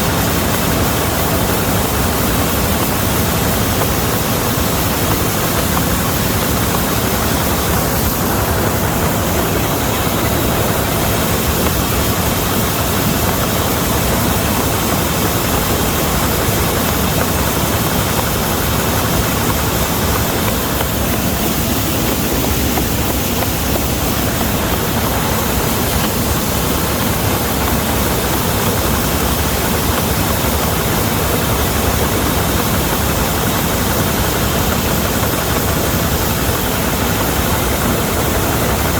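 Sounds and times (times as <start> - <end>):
combine harvester threshing: 0.0 - 38.9.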